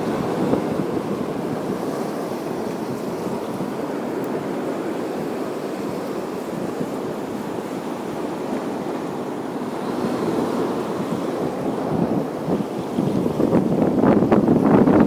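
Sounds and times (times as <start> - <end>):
sea surf on rocky shore: 0.0 - 15.0
wind buffeting microphone: 0.0 - 15.0.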